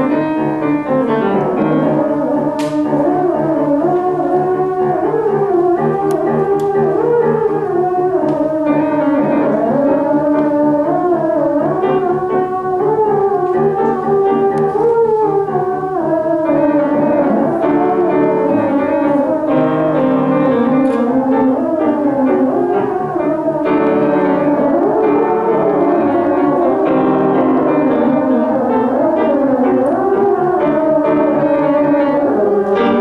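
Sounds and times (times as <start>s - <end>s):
piano: 0.0s - 33.0s
theremin ensemble melody: 0.0s - 33.0s.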